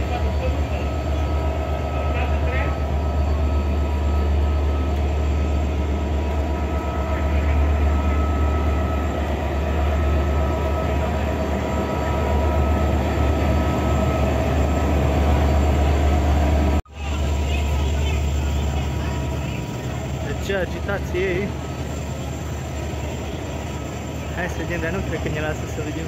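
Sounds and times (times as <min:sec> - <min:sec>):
diesel locomotives idling: 0:00.0 - 0:26.0.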